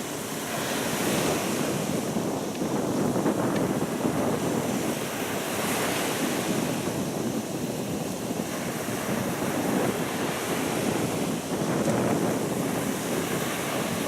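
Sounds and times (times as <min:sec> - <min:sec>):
sea surf washing ashore: 0:00.0 - 0:14.0
wind buffeting microphone: 0:00.0 - 0:14.0.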